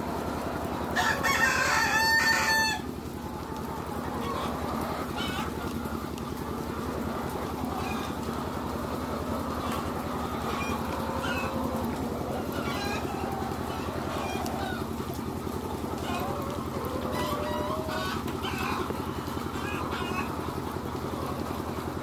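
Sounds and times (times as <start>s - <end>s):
chickens clucking and calling: 0.0s - 22.0s.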